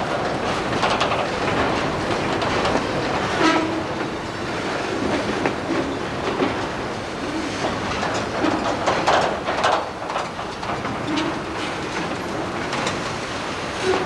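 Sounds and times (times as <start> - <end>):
train clicks and clanks: 0.0 - 14.0
train wheels rumbling on rails: 0.0 - 14.0.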